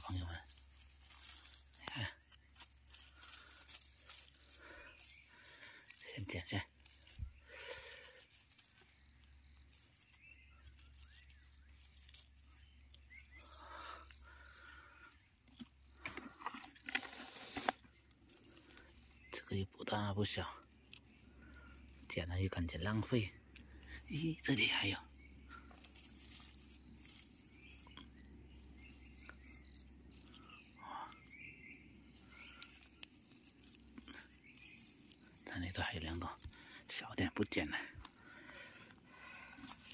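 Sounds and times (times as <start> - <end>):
faint arching chirps: 0.0 - 39.9
rustling of forest-floor litter: 0.0 - 39.9.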